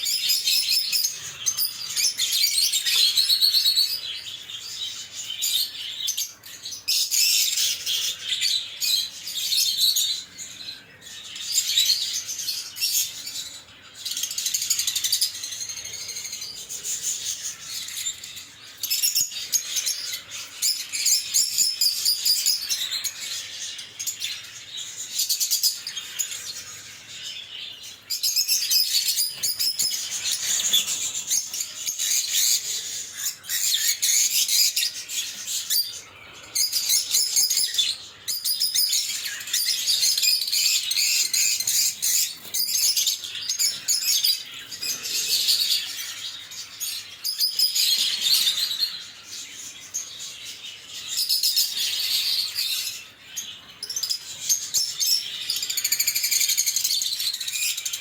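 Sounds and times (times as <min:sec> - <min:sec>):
lovebird chirping: 0:00.0 - 0:58.0.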